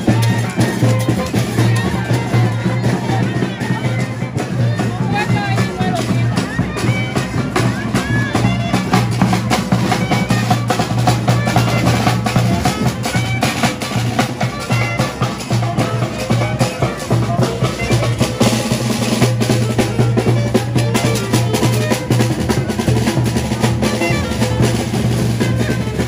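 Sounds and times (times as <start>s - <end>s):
saxophone melody: 0.0s - 4.5s, 5.4s - 26.0s
bass drum beat: 0.0s - 26.0s
snare drum: 0.0s - 26.0s.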